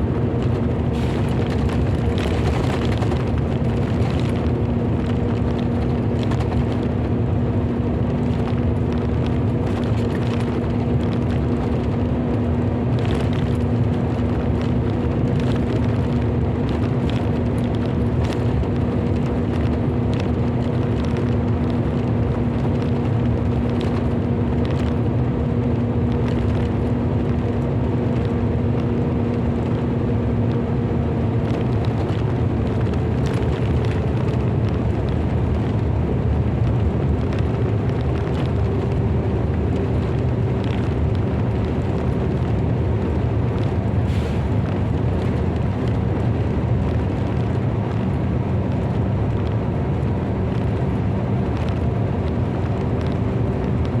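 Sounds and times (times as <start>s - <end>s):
low rumbling noise: 0.0s - 54.0s.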